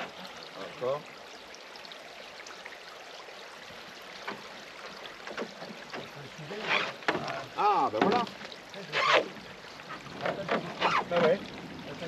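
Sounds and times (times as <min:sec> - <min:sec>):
river water lapping at bank: 0:00.0 - 0:12.0.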